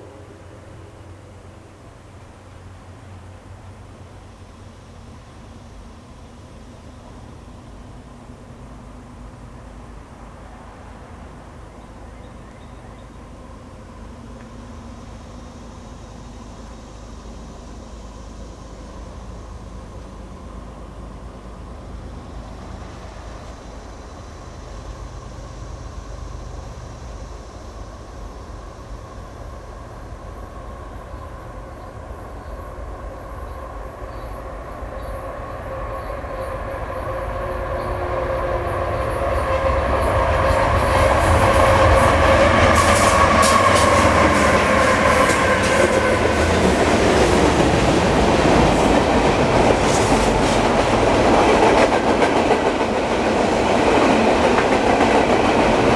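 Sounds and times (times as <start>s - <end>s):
freight train passing: 0.0s - 55.9s.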